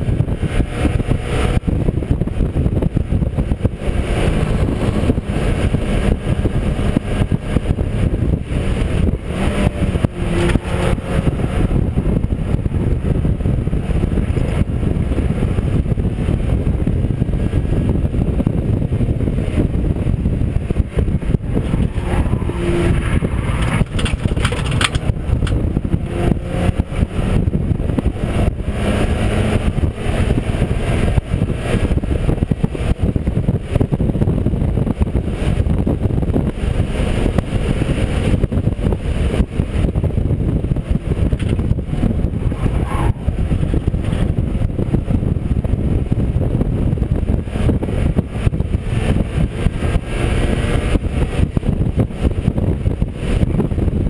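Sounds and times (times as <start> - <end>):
race car engine: 0.0 - 54.0
road and wind noise: 0.0 - 54.0.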